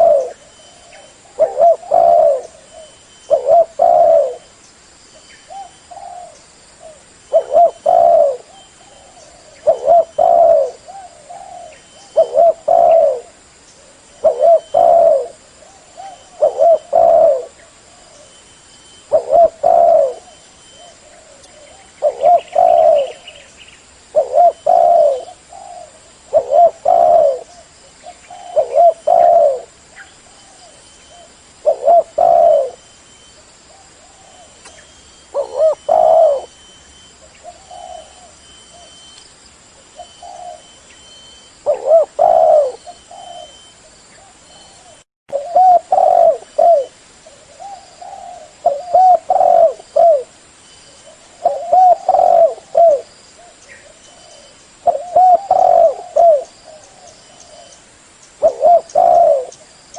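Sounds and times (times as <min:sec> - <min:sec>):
dove cooing: 0:00.0 - 0:04.6, 0:05.5 - 0:23.5, 0:24.1 - 0:39.2, 0:39.8 - 0:50.3, 0:50.9 - 0:57.8, 0:58.4 - 0:59.6.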